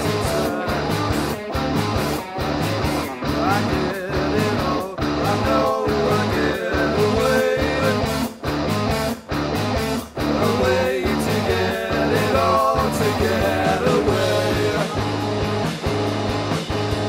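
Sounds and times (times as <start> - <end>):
guitar lead with bent notes: 0.0 - 17.0
repeating bass line: 0.0 - 17.0.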